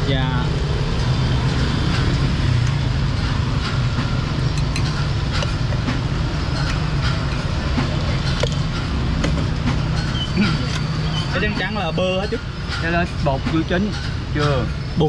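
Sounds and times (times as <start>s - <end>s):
street traffic rumble: 0.0s - 15.0s
metal clinking against pots: 2.0s - 14.9s.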